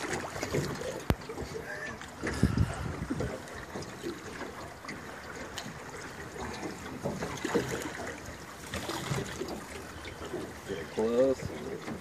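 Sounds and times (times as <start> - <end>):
river water lapping against boat: 0.0 - 12.0.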